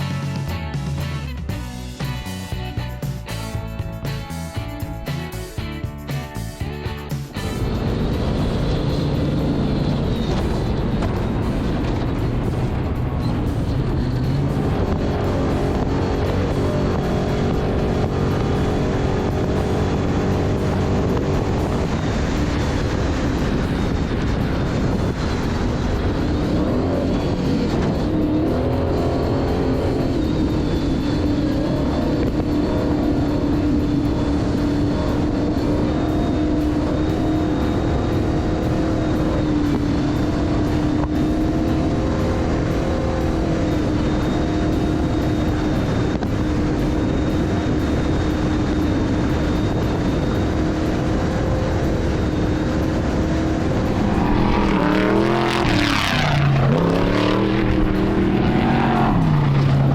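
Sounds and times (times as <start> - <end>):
music: 0.0 - 59.9
race engine revving high: 7.2 - 59.9.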